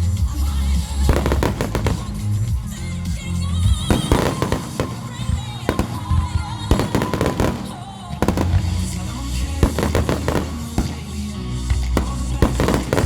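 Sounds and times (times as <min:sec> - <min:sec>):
firework bangs and crackles: 0:00.0 - 0:13.0
music playing: 0:00.0 - 0:13.0.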